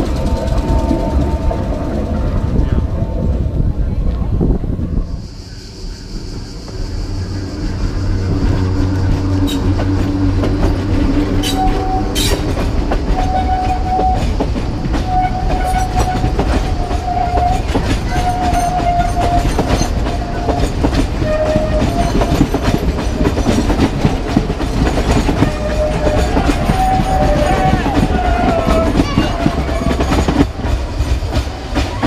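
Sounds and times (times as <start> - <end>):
wheels squealing: 0.0 - 3.5, 5.0 - 30.5
train wheels clicking over joints: 0.0 - 3.6, 6.3 - 32.0.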